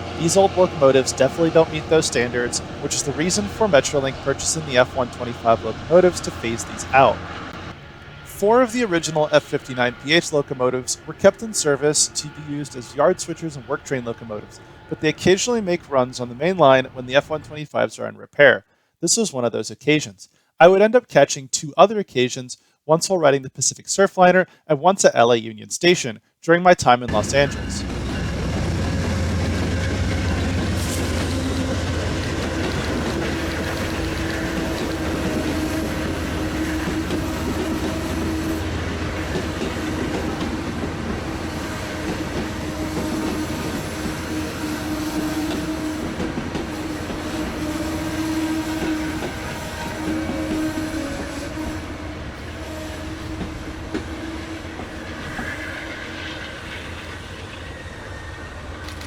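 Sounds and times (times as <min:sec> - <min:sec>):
diesel locomotive drone: 0:00.0 - 0:17.5, 0:27.1 - 0:59.0
train wheels rumbling on rails: 0:00.0 - 0:17.5, 0:27.1 - 0:59.0.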